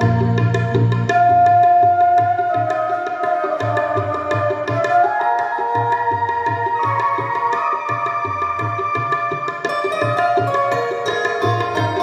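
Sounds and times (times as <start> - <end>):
tabla rhythm: 0.0 - 12.0.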